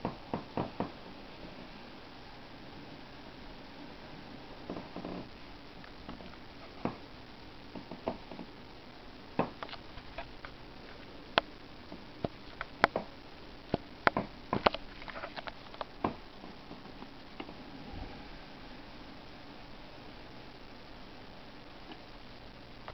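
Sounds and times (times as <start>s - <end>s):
faint steady hiss: 0.0s - 22.9s.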